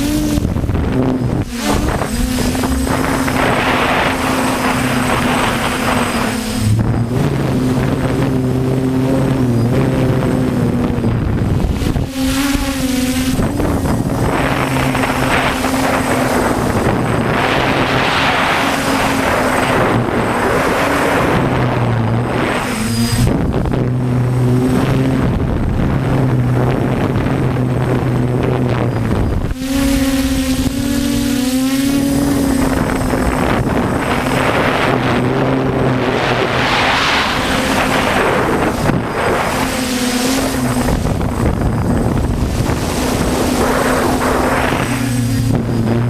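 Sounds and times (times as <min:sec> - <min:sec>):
drone propellers humming: 0:00.0 - 0:46.0
wind noise on microphone: 0:00.0 - 0:46.0.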